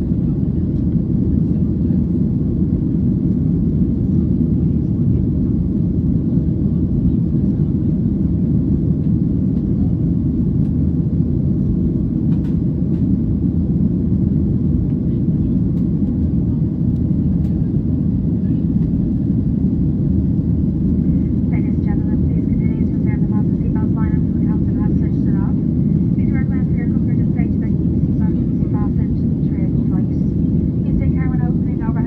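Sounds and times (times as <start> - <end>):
jet engine rumble in cabin: 0.0 - 32.0.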